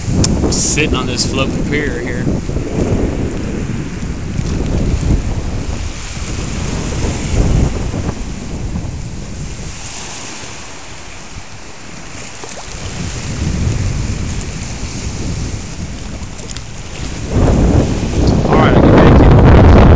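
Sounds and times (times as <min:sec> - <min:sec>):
choppy water splashing: 0:00.0 - 0:19.9
wind buffeting microphone: 0:00.0 - 0:19.9.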